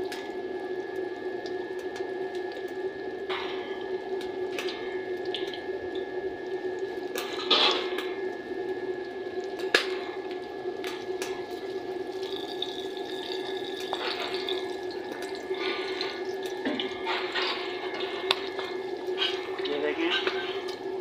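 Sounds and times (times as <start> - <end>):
fat sizzling in deep-frying: 0.0 - 21.0.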